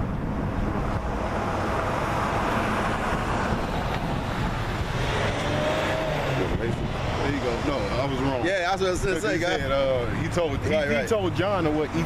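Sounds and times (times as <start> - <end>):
wind noise on microphone: 0.0 - 10.8
road traffic rumble: 0.0 - 12.0
vehicle passing: 0.1 - 12.0.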